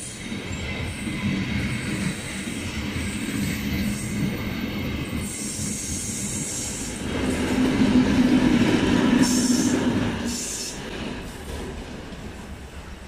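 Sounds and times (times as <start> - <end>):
diesel locomotive engine drone: 0.0 - 12.7
train coaches rolling on jointed track: 0.0 - 13.0.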